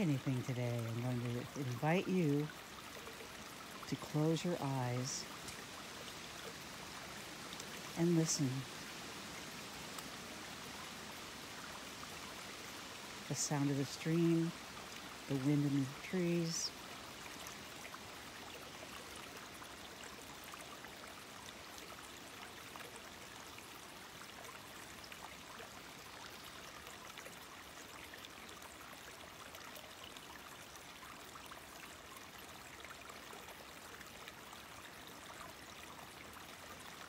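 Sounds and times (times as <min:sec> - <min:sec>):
stream trickling over rocks: 0:00.0 - 0:37.0.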